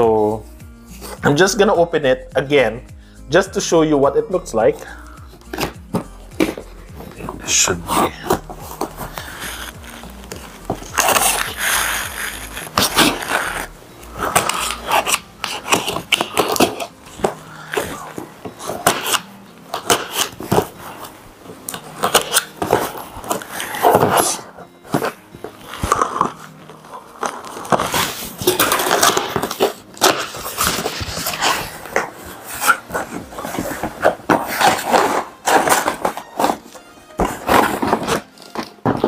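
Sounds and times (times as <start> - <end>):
cardboard box scraping: 5.4 - 39.0
scissors cutting packing tape: 5.4 - 39.0.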